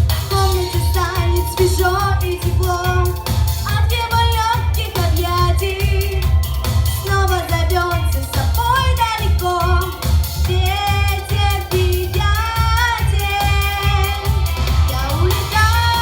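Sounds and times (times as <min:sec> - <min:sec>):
pop backing music with bass beat: 0:00.0 - 0:16.0
girl singing: 0:00.3 - 0:16.0.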